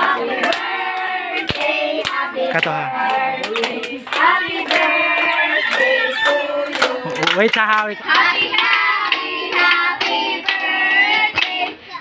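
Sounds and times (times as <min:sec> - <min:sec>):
people clapping: 0:00.0 - 0:11.8
voices singing: 0:00.0 - 0:12.0.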